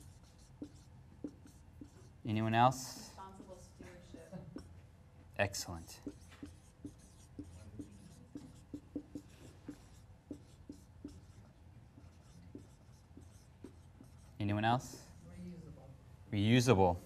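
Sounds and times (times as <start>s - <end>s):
marker writing on whiteboard: 0.0s - 15.9s.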